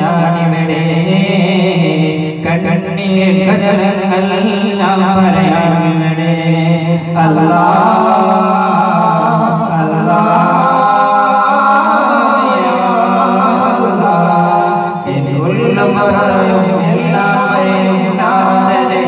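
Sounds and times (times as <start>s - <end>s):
men singing through microphones: 0.0s - 19.0s.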